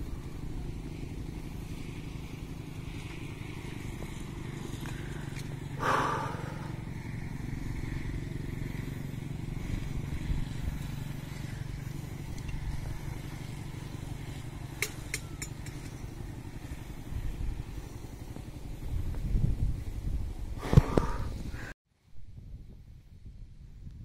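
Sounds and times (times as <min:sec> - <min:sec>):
motorcycle engines running: 0:00.0 - 0:21.8.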